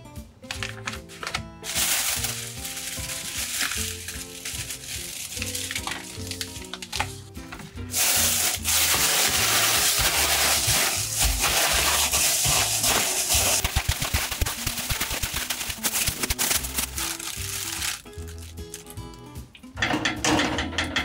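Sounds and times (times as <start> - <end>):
plastic bag crinkling: 0.8 - 7.1, 7.9 - 19.2.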